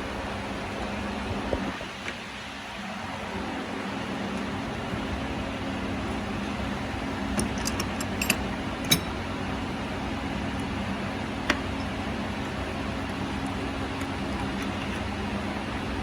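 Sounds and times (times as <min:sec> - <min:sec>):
car engine and fan hum: 0:00.0 - 0:16.0.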